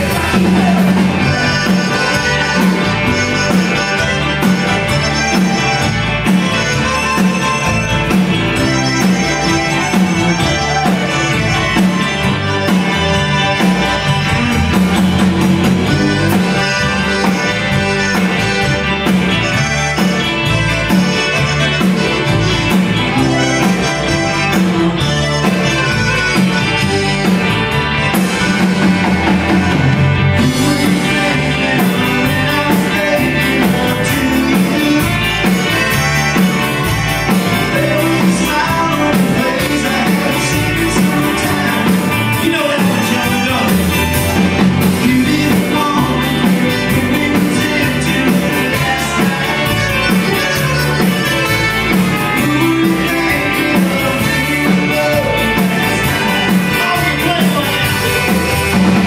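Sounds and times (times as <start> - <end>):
person singing: 0.0 - 27.4, 28.2 - 59.0
live country-rock band: 0.0 - 59.0.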